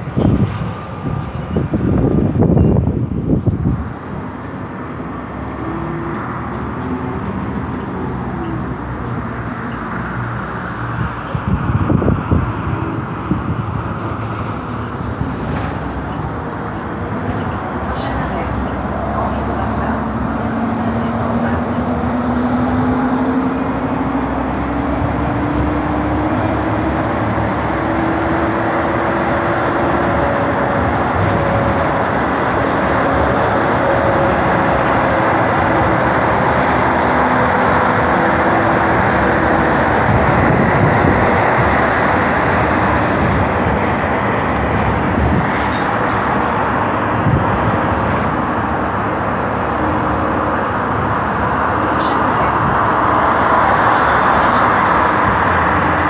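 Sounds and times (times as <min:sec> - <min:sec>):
bus engine and road drone: 0:00.0 - 0:56.0.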